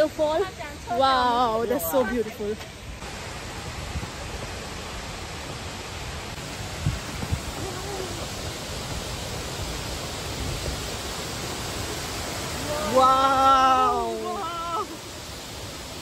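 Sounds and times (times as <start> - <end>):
waterfall roaring: 2.8 - 16.0.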